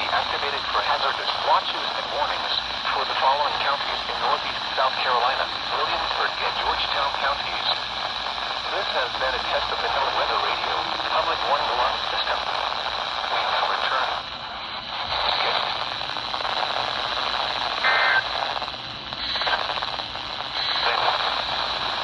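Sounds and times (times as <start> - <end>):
alternating data burst tones: 0.0 - 22.0
radio hiss and static: 0.0 - 22.0.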